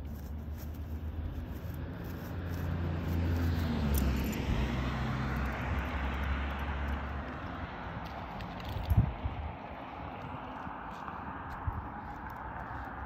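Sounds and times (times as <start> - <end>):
car passing: 0.0 - 13.0
low traffic rumble: 0.0 - 13.0.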